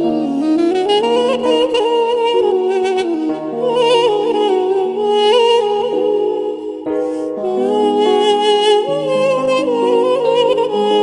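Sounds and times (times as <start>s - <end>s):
duduk melody with vibrato: 0.0s - 11.0s.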